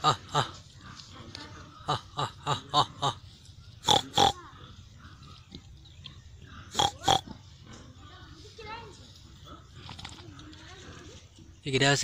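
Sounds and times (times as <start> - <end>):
pigs grunting: 0.0 - 8.5, 9.1 - 11.6.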